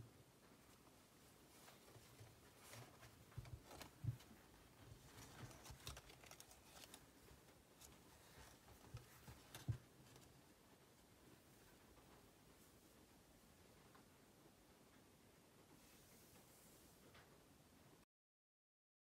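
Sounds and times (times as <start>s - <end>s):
soft rustles of handling: 0.3s - 17.7s.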